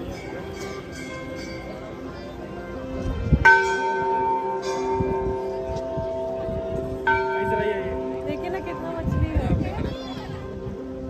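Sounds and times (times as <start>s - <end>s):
temple bell ringing: 0.0s - 11.0s.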